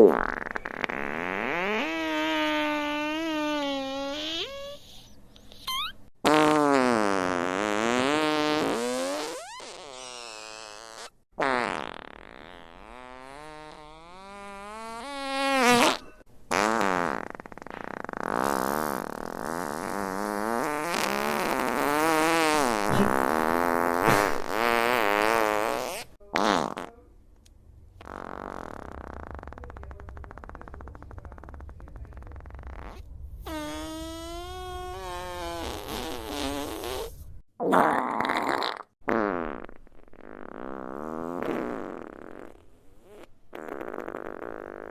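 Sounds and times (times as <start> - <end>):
fart sound effects: 0.0 - 27.0, 28.0 - 44.9.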